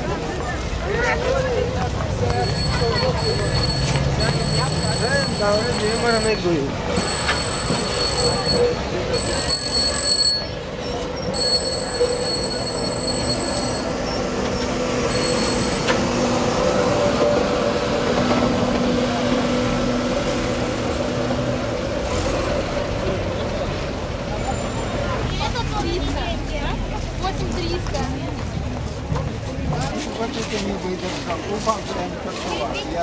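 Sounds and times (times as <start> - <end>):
tram rolling rumble: 0.0 - 31.4.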